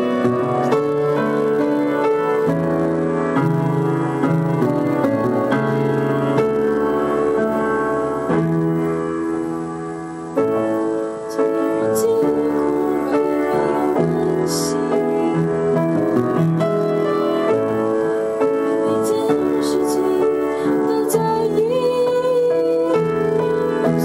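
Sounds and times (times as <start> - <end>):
piano playing slow chords: 0.0 - 24.0.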